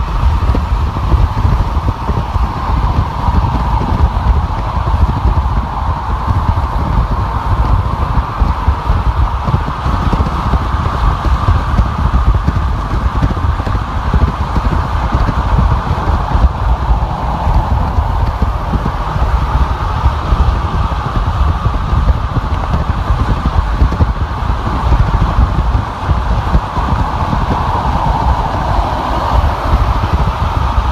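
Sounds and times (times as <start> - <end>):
wind and traffic hiss: 0.0 - 30.9.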